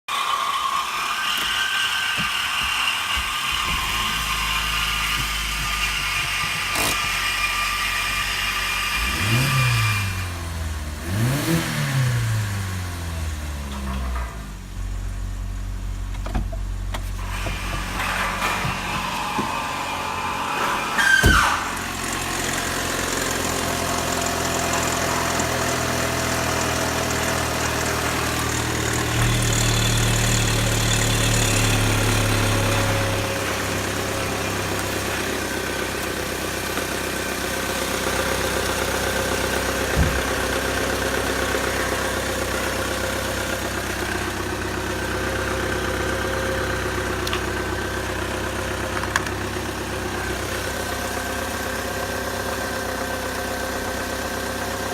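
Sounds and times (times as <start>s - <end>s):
starter motor whine: 0.1s - 10.4s, 16.1s - 54.9s
car engine idling: 2.1s - 54.9s.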